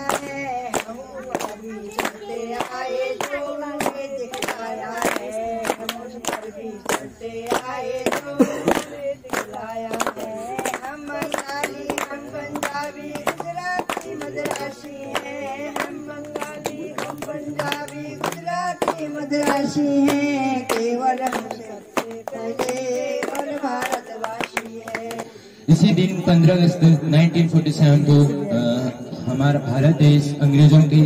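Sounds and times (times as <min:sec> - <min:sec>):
hand-clapping keeping time: 0:00.0 - 0:25.4
women singing: 0:00.0 - 0:25.6.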